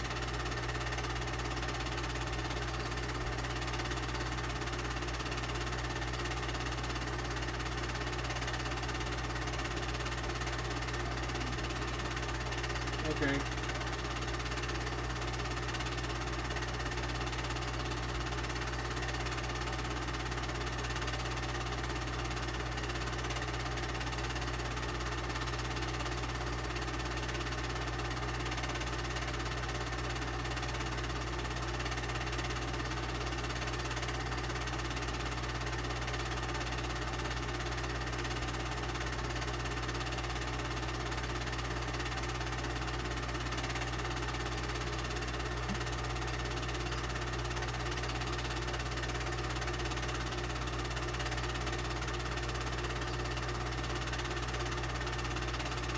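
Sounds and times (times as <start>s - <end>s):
film projector whirring: 0.0s - 55.9s.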